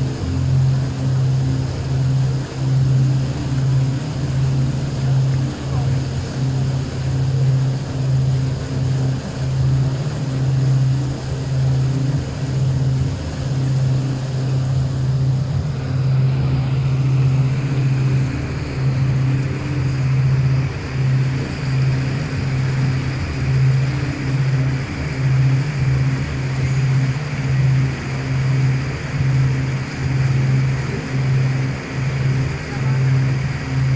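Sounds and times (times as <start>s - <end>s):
boat engine humming: 0.0s - 33.9s
rushing water: 0.0s - 33.9s.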